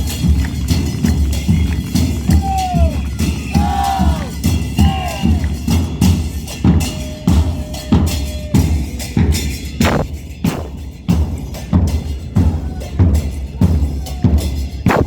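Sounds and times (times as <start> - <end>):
percussion group playing: 0.0 - 15.0.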